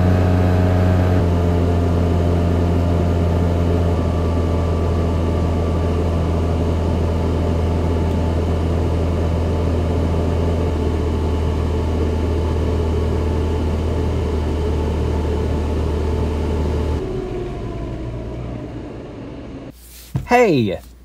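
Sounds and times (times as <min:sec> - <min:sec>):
whine winding down: 0:00.0 - 0:19.7
wind turbine whirring: 0:01.5 - 0:19.7
low fan hum: 0:01.5 - 0:21.0.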